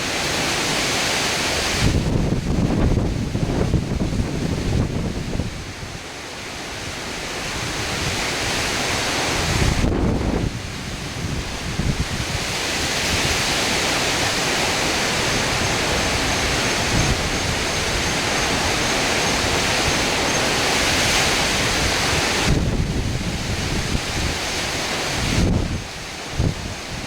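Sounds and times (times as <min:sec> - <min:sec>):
wind buffeting microphone: 0:00.0 - 0:06.1, 0:06.8 - 0:27.0
heavy wind and rain: 0:00.0 - 0:27.0.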